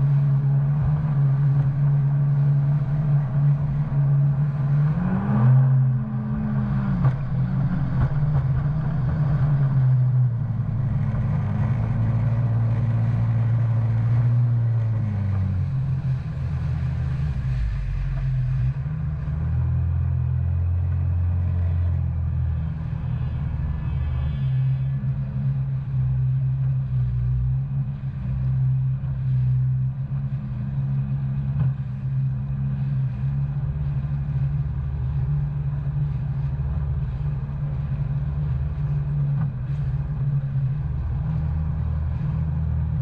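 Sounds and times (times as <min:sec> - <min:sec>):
personal watercraft engine running: 0:00.0 - 0:43.0.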